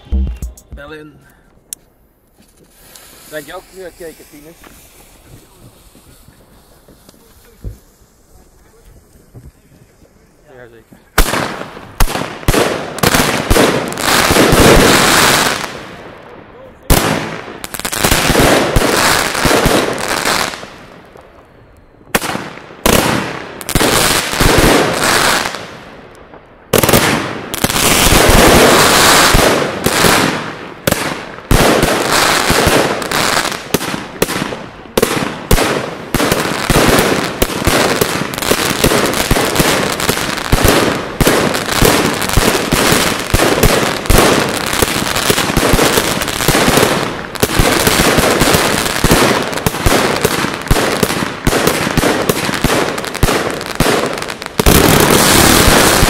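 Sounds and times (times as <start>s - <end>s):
fireworks launching and bursting: 0.0s - 1.2s, 1.8s - 56.0s.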